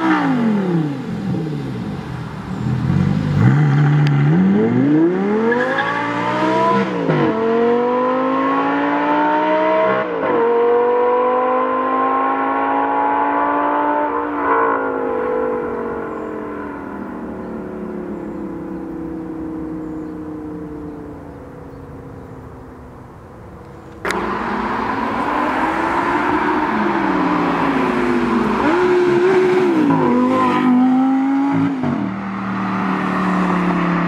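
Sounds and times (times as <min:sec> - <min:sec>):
sports car engine accelerating: 0:00.0 - 0:22.5, 0:23.7 - 0:34.0.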